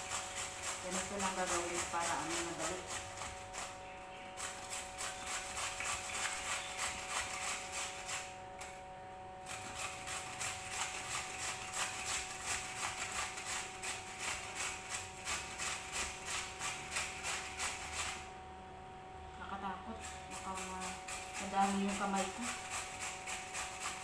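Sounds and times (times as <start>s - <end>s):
potato rasping on a grater: 0.0s - 8.7s, 9.4s - 18.3s, 20.0s - 24.0s.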